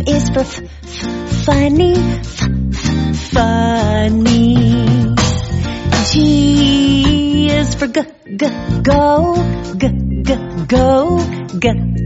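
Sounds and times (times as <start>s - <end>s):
children's song with acoustic guitar: 0.0s - 12.0s.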